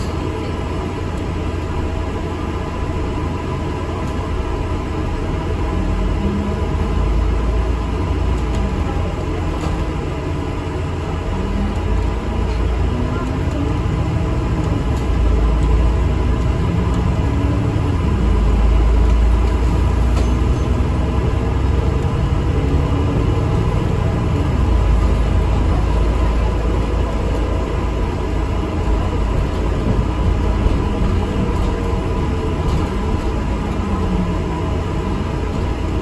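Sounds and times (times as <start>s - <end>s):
bus engine and road rumble: 0.0s - 36.0s
constant hum: 0.0s - 36.0s.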